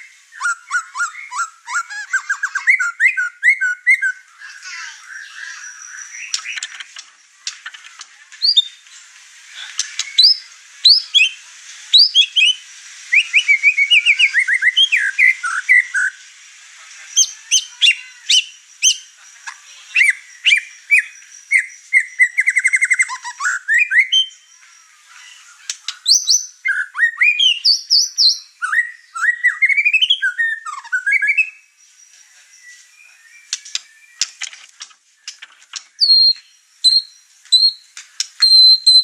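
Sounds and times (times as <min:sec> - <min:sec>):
songbird whistling and chirping: 0:00.0 - 0:16.3, 0:17.1 - 0:39.0.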